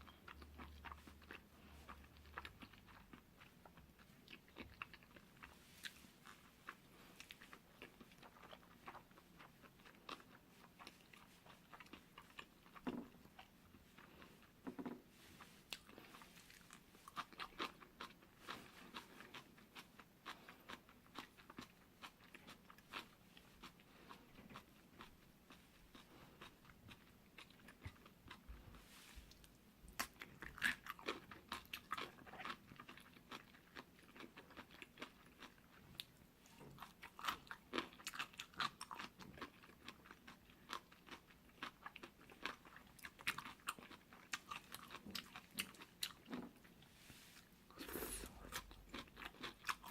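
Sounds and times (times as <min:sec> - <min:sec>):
chewing noodles: 0:00.0 - 0:49.9.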